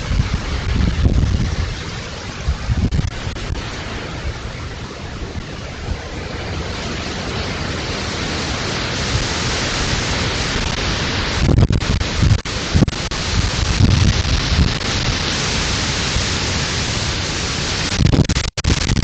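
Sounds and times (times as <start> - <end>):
wind buffeting microphone: 0.0 - 19.0
wind through trees: 0.0 - 19.0.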